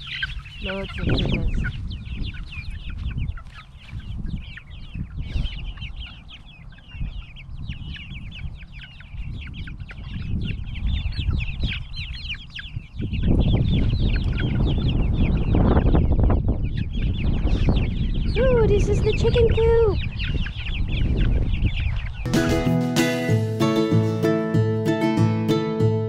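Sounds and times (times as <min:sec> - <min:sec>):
chickens squawking: 0:00.0 - 0:24.8.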